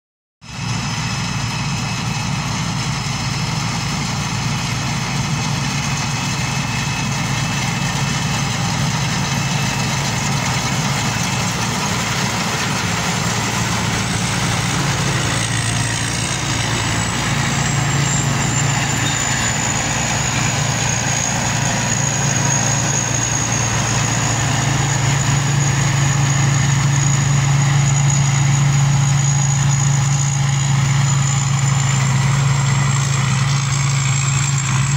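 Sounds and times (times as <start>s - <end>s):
combine harvester engine droning: 0.4s - 34.9s
thin high whine: 5.8s - 34.9s.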